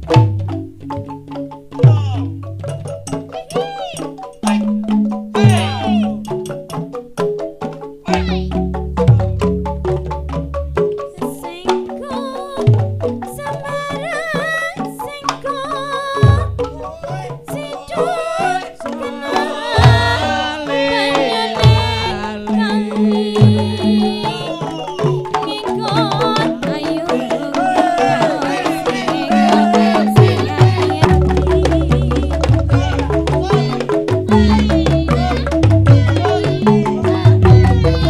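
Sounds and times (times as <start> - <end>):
wavering gliding melody: 0.0 - 38.0.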